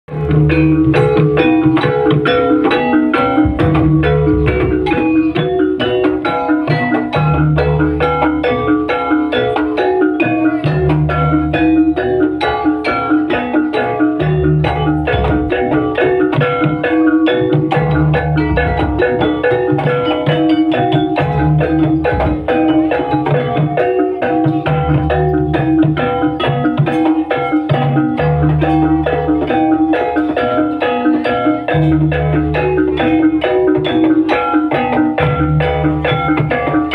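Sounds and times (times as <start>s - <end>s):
deep drum beats: 0.1s - 30.6s
metallophones in fast pattern: 0.1s - 36.9s.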